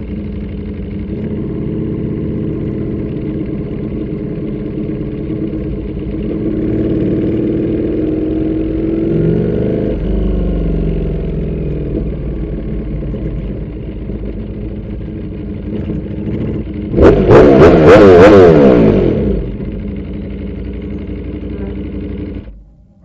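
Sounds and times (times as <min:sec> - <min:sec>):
loud engine with wavering pitch: 0:00.0 - 0:23.0
motorcycle engine running slowly: 0:00.0 - 0:23.0.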